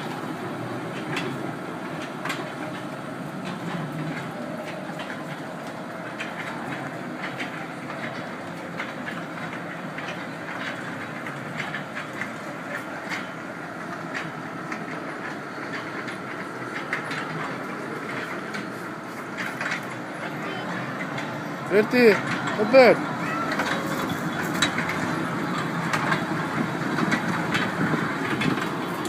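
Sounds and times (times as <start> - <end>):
ride train rumble: 0.0 - 29.0
wheels clicking over rail joints: 0.0 - 29.0.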